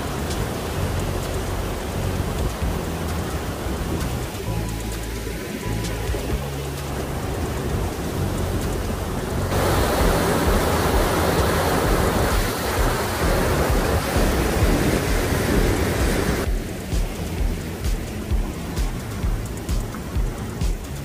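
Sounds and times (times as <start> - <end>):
whitewater rushing: 0.0 - 21.0.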